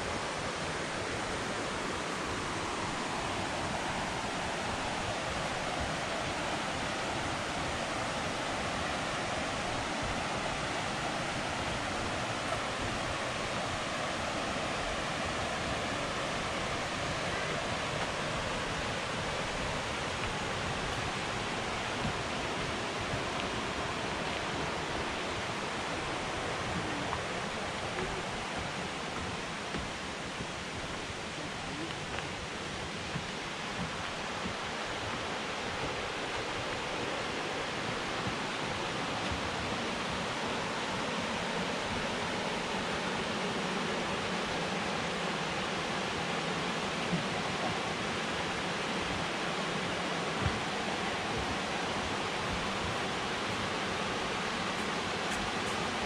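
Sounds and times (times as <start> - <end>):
creek rushing: 0.0 - 56.0.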